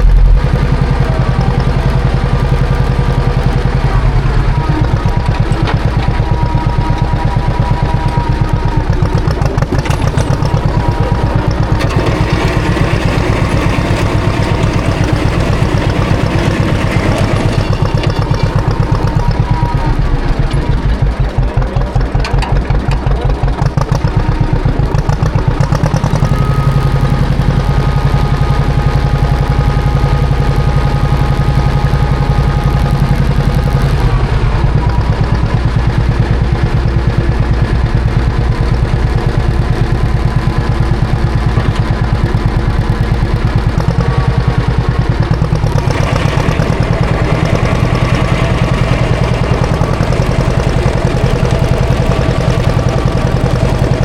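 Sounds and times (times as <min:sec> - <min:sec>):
tractor engine pulsing: 0:00.0 - 0:54.0.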